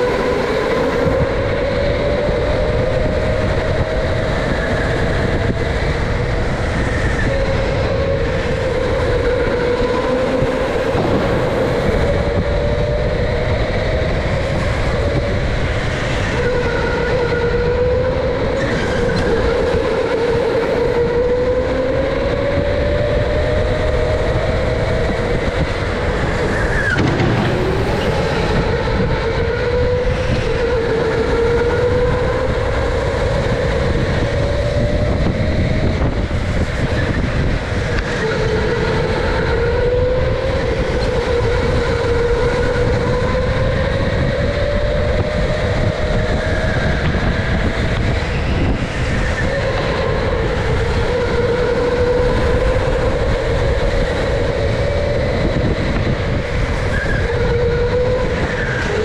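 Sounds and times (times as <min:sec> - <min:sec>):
electric kart motor whining: 0:00.0 - 0:59.0
kart rumbling on track: 0:00.0 - 0:59.0.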